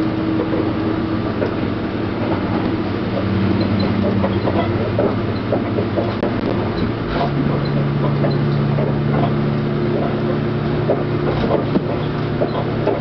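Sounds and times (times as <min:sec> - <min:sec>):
low engine drone: 0:00.0 - 0:13.0
wheels rolling on rails: 0:00.0 - 0:13.0.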